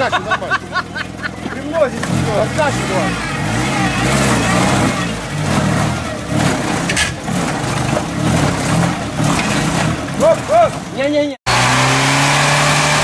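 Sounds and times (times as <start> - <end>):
engine revving under load: 0.7 - 13.0.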